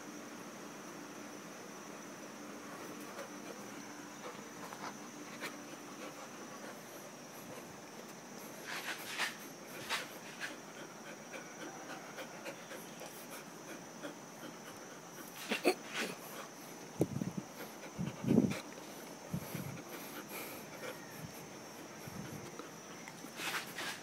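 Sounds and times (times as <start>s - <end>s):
dog panting: 2.9s - 7.8s, 8.6s - 16.7s, 17.4s - 24.0s.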